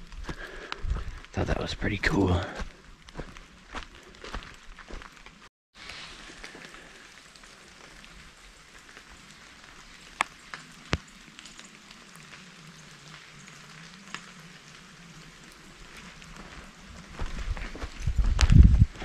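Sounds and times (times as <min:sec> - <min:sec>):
soft hiss of rain: 0:00.0 - 0:19.0.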